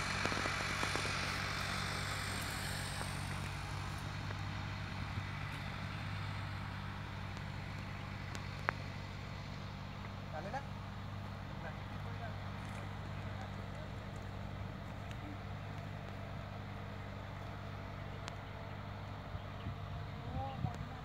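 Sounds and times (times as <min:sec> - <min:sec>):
tractor diesel engines running: 0:00.0 - 0:21.0.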